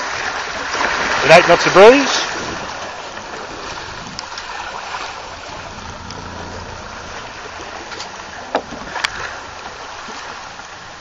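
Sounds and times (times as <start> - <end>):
water rushing: 0.0 - 11.0
wind: 0.0 - 11.0.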